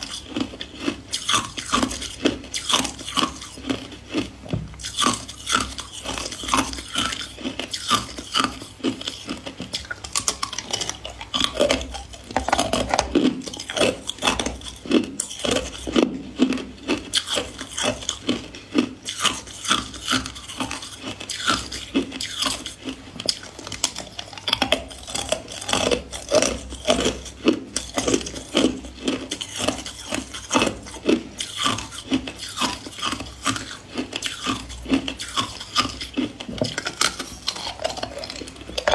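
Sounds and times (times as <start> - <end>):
ice cubes being chewed: 0.0 - 38.9.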